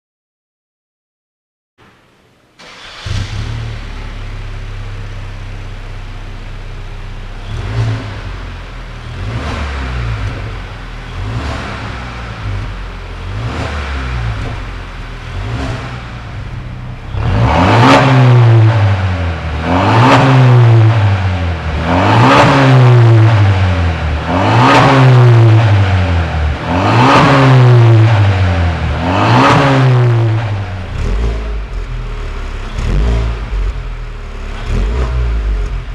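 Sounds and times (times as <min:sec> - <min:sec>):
car engine starting: 0:02.4 - 0:35.9
engine free revs: 0:02.6 - 0:05.2, 0:07.3 - 0:35.9
car engine idling: 0:02.6 - 0:35.9.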